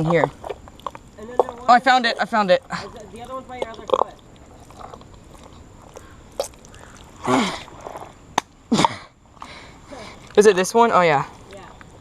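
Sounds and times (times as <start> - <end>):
mud squelching: 0.0 - 10.6.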